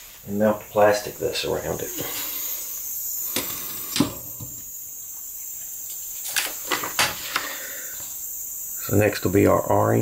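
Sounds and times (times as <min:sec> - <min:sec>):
steady high hiss: 0:00.0 - 0:10.0.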